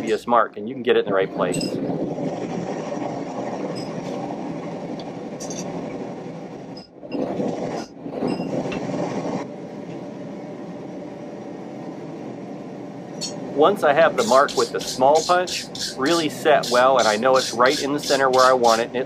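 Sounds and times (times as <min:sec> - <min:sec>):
forge burner rushing: 0:00.0 - 0:19.0.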